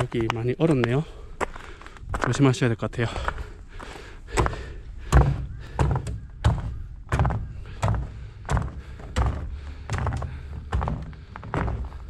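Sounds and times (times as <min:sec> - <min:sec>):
crampon footsteps on frozen steps: 0:00.0 - 0:12.0.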